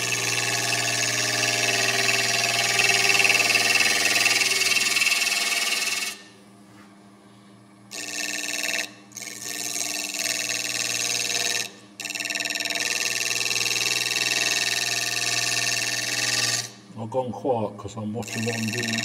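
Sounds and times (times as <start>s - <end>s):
gouge cutting wood on lathe: 0.0s - 6.3s, 7.9s - 16.8s, 18.2s - 19.0s
lathe humming: 0.0s - 6.4s, 7.9s - 19.0s.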